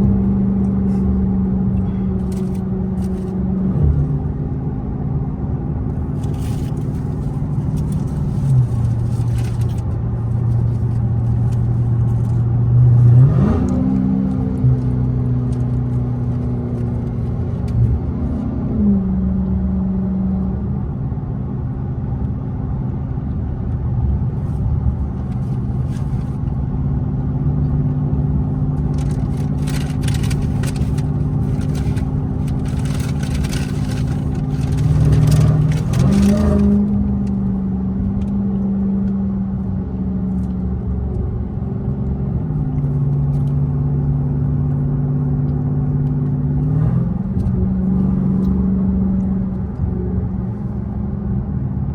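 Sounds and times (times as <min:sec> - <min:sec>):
car engine droning: 0:00.0 - 0:51.9.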